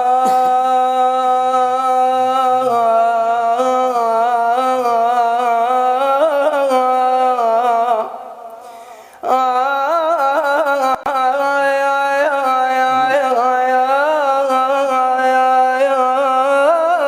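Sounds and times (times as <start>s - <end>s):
man singing a held vowel: 0.0s - 17.0s.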